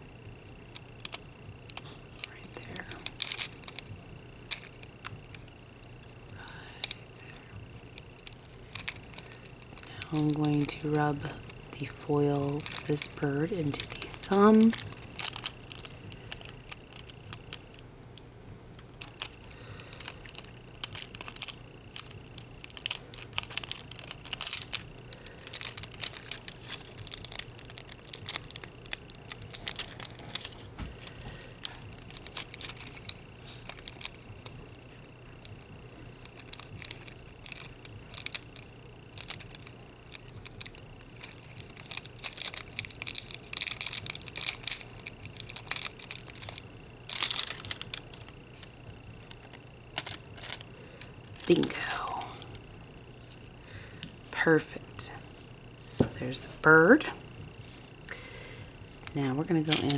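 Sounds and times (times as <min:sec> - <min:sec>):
foil crinkling and scratching: 0:00.6 - 0:05.5, 0:07.7 - 0:52.2, 0:58.9 - 0:59.9.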